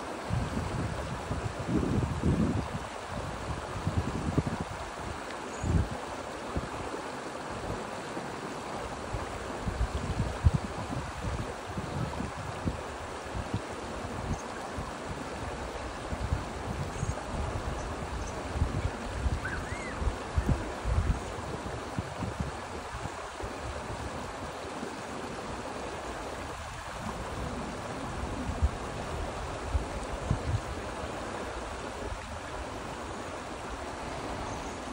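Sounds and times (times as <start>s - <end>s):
rushing mountain water: 0.0s - 34.9s
wind rumbling on microphone: 0.2s - 6.8s, 8.9s - 34.9s.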